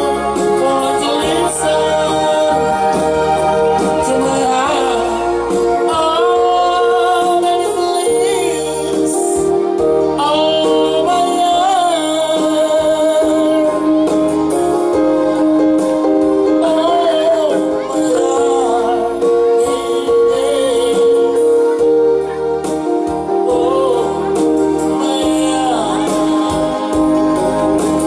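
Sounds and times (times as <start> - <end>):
held instrumental chords: 0.0 - 28.0
person singing with vibrato: 0.0 - 28.0.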